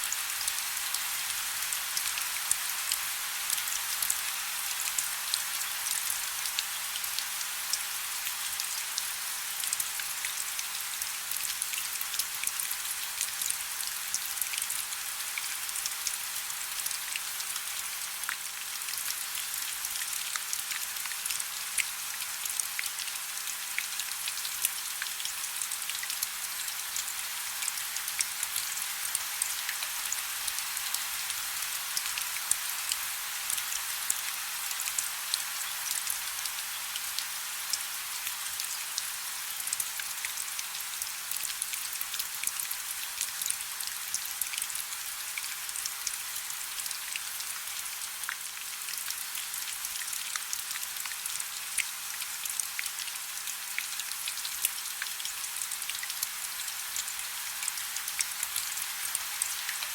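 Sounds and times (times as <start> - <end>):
soft steady rain: 0.0 - 59.9.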